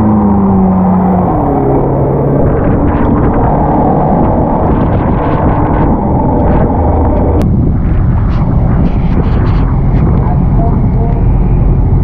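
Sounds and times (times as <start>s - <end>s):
low steady rumble: 0.0s - 12.0s
wind buffeting microphone: 0.0s - 12.0s.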